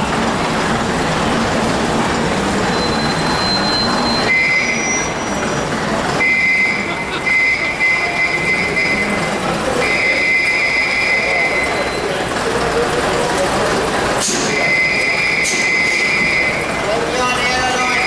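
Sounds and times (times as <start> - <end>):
bus engine moving slowly: 0.0 - 18.0.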